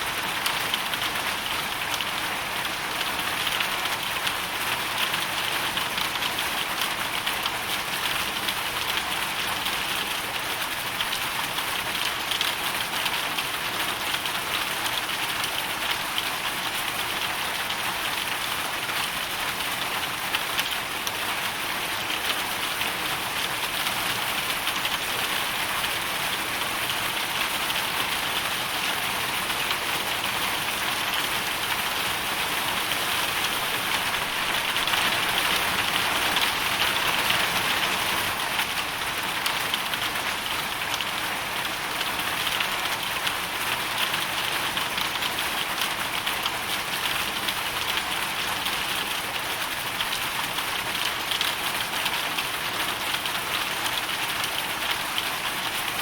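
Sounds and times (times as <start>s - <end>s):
hail and rain on hard surface: 0.0s - 56.0s.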